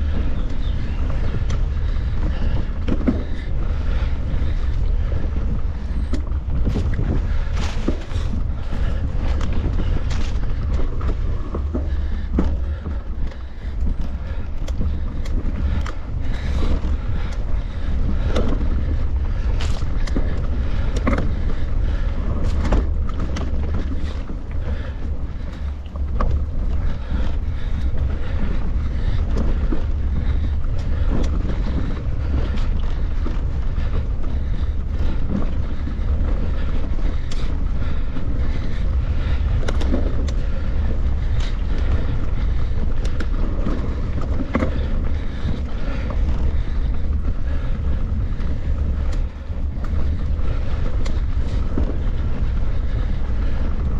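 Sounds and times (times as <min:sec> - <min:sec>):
bike knocks and rattles: 0:00.0 - 0:53.9
wind buffeting microphone: 0:00.0 - 0:53.9.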